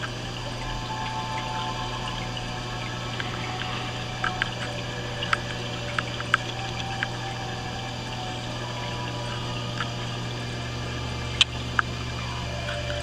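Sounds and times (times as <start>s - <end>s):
pump hum: 0.0s - 13.0s
trickling water: 0.0s - 13.0s.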